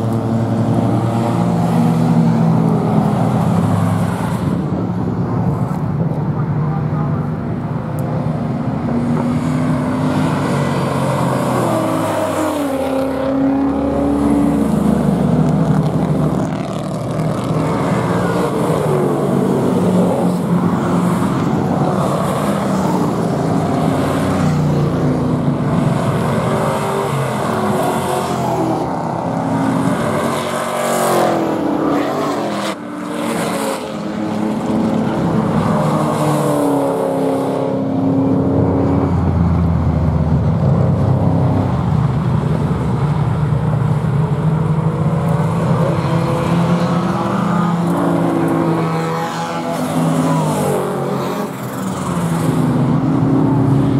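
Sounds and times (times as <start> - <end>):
race cars accelerating past: 8.0 - 53.9.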